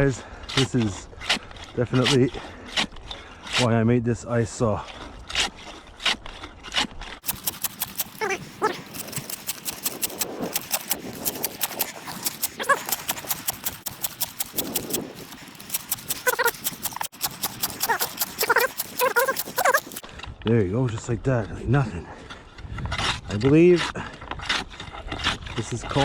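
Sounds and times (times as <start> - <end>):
hand saw rasping through ice: 0.0 - 20.1, 22.2 - 26.0.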